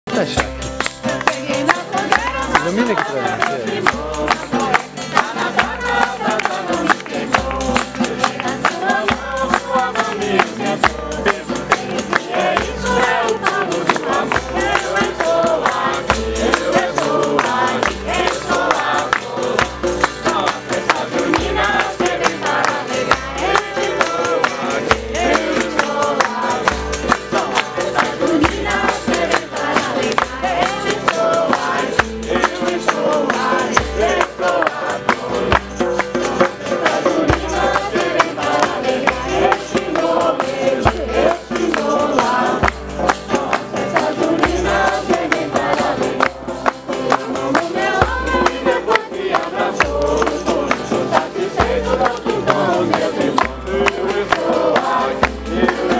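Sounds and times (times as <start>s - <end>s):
rapid rattling percussion: 0.1s - 55.9s
group singing together: 0.2s - 55.9s.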